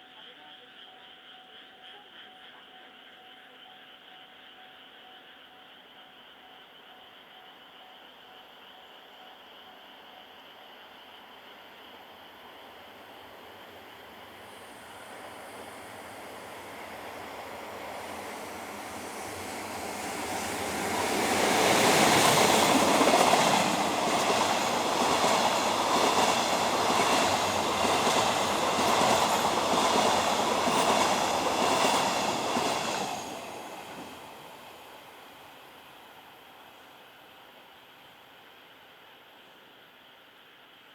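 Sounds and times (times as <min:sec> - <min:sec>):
electric locomotive passing: 0:00.7 - 0:38.7.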